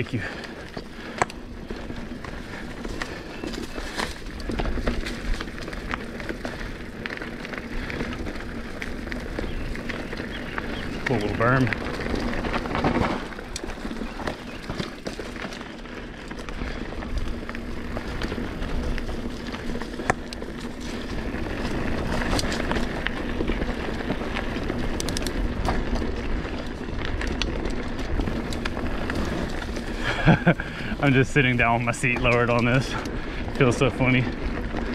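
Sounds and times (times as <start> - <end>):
bike clicks and rattles: 0.0 - 34.9
bike tyres on dirt: 0.0 - 34.9.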